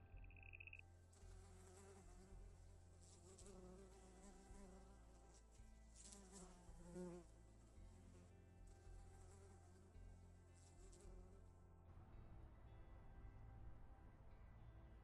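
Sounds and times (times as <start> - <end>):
faint low buzzing hum: 0.0 - 15.0.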